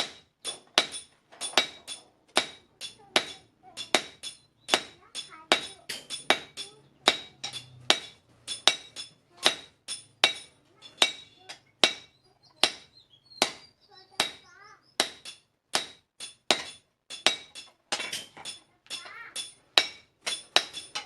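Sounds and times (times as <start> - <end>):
hammer striking steel on anvil: 0.0 - 13.6, 14.2 - 14.4, 15.0 - 21.0.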